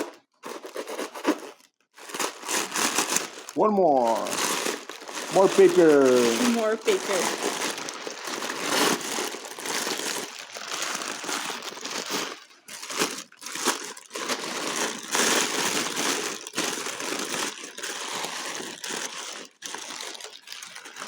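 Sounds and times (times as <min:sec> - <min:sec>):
packing paper crumpling: 0:00.0 - 0:21.0.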